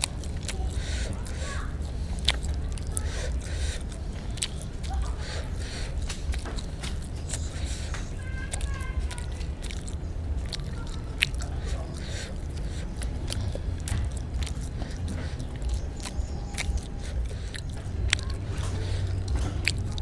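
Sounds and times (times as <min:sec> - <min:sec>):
chewing and mouth noises: 0:00.0 - 0:20.0.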